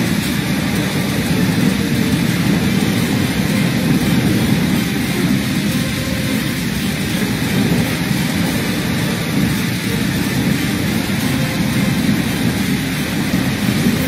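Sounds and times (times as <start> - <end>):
floodwater rushing roar: 0.0 - 14.0.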